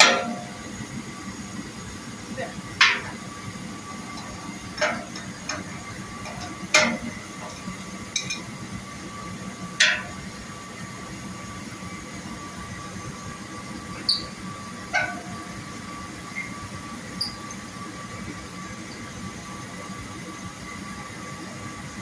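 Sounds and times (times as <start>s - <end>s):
faint high hum: 0.0s - 20.5s.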